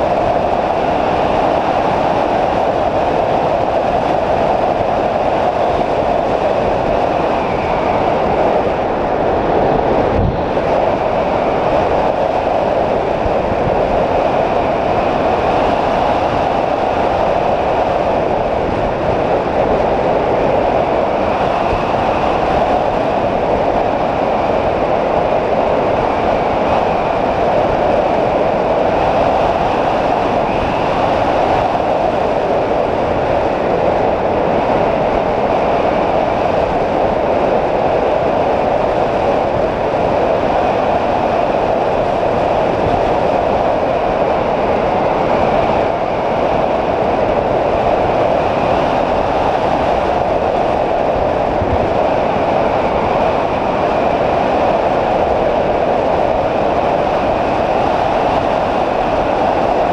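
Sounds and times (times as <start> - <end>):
airflow rushing: 0.0 - 59.9.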